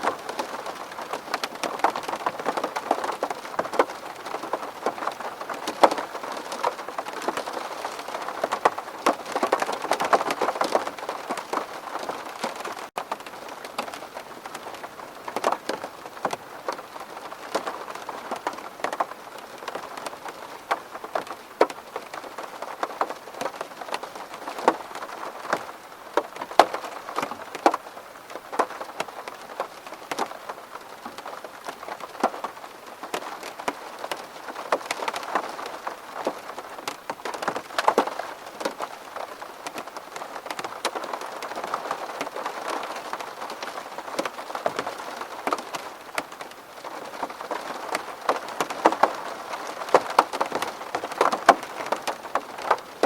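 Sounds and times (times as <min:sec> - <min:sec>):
rain tapping on window glass: 0:00.0 - 0:53.0.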